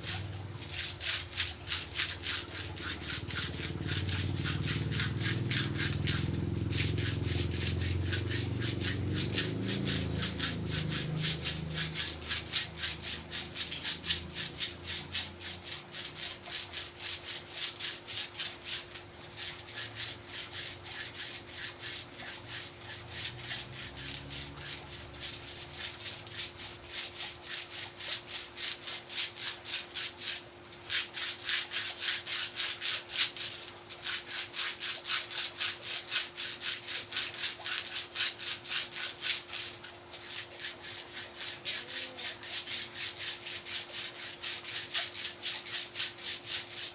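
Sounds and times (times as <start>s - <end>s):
rubbing strokes on skin: 0.0s - 46.9s.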